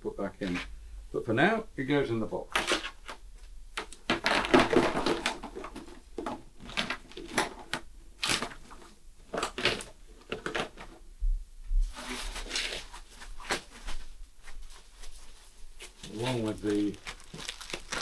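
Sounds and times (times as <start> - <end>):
wires rustling and crunching: 2.5 - 11.0, 11.8 - 18.0.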